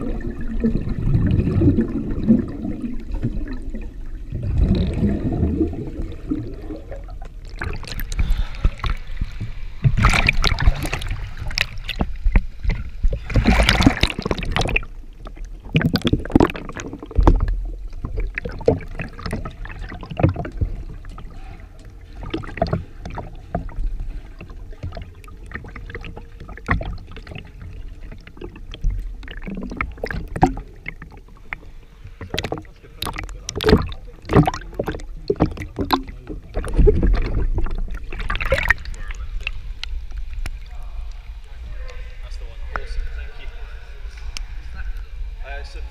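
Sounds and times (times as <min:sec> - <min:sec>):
muffled underwater sloshing: 0:00.0 - 0:45.9.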